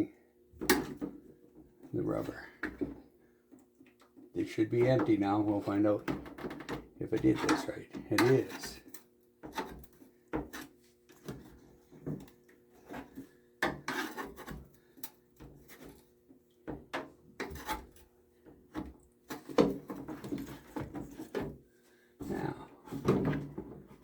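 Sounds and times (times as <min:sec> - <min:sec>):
clicks knocks and rubbing of hoses: 0:00.6 - 0:21.6.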